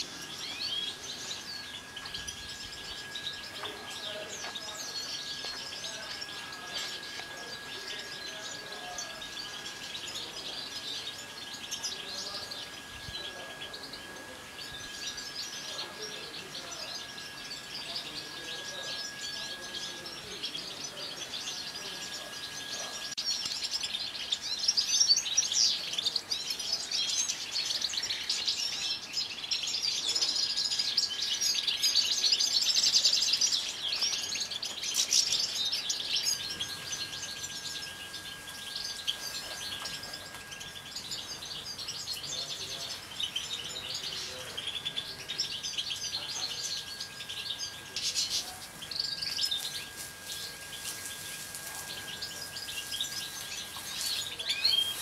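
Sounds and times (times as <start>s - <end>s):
finches chirping and twittering: 0.0s - 55.0s.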